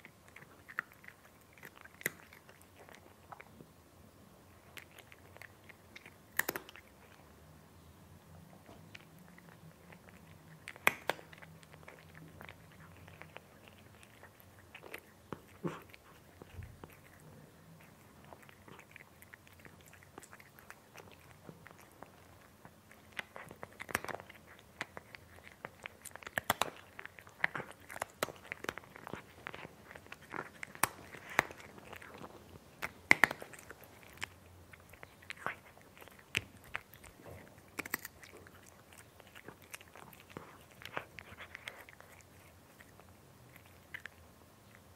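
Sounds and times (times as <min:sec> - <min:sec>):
cat crunching food: 0:00.0 - 0:03.7, 0:04.4 - 0:07.4, 0:08.4 - 0:44.9.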